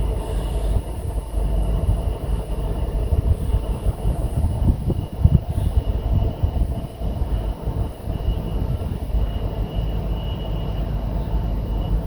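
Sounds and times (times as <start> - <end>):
faint steady high tone: 0.0 - 12.0
train wheels rumbling: 0.0 - 12.0.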